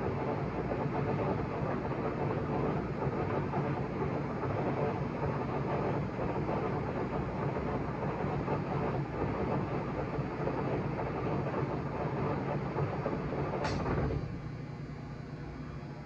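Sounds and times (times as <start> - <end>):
lathe running with gear noise: 0.0 - 14.4.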